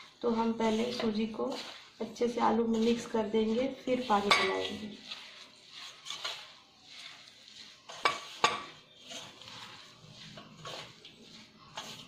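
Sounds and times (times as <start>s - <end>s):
hand rustling and scraping semolina: 0.0s - 12.0s.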